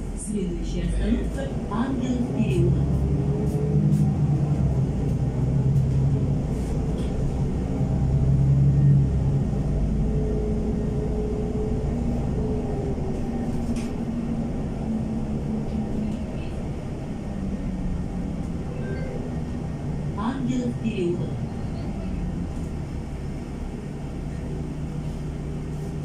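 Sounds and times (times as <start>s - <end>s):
bus engine humming: 0.0s - 26.0s.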